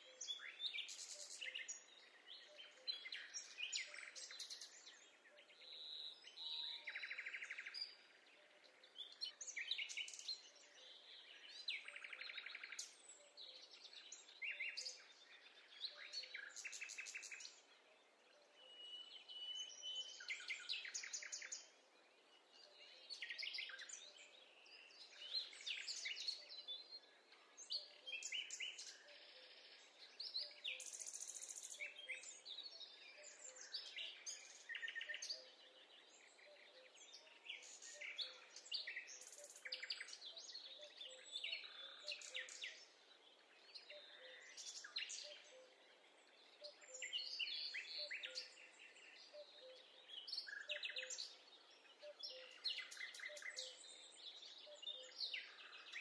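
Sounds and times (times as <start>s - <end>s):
songbirds trilling and chirping: 0.0s - 56.0s.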